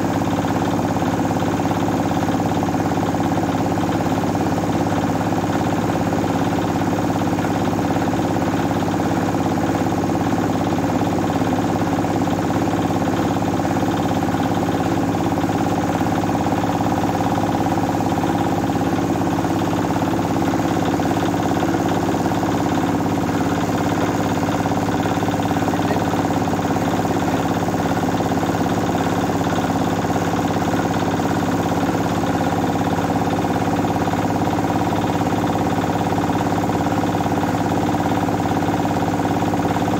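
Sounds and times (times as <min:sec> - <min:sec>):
diesel engine running: 0:00.0 - 0:39.9
rice mill milling: 0:00.0 - 0:39.9.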